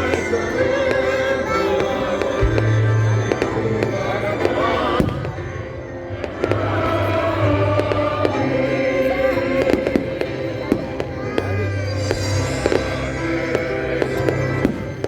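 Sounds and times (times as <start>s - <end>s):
hymn sung and played: 0.0s - 15.0s.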